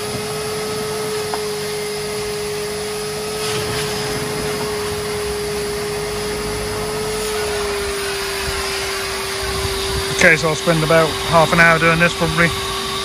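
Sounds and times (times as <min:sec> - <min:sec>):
wet vac motor whining: 0:00.0 - 0:13.0.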